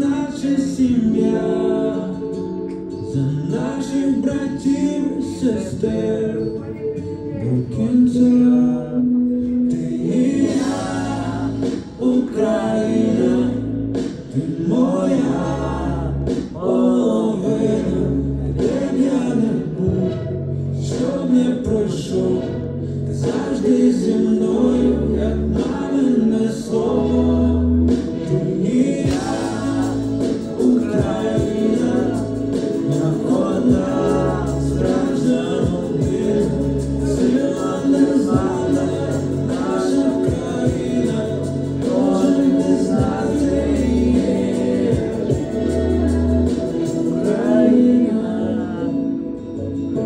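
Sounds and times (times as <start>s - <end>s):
backing track with bass and chords: 0.0s - 50.0s
man singing slow song: 0.0s - 50.0s.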